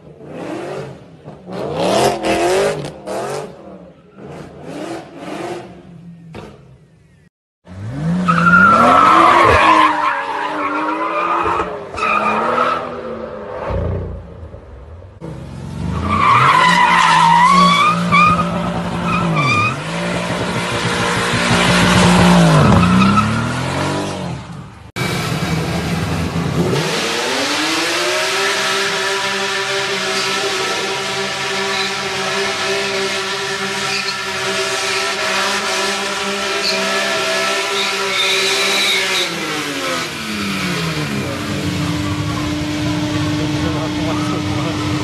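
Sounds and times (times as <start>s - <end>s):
car engines revving: 0.0s - 6.9s, 7.7s - 45.0s.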